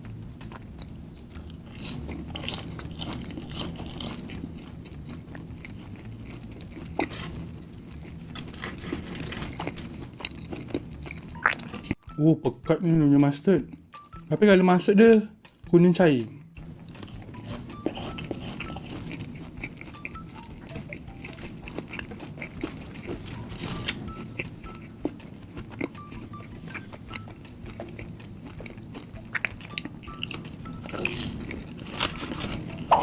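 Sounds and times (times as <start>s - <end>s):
close chewing with crunches: 0.4s - 12.0s, 16.6s - 33.0s.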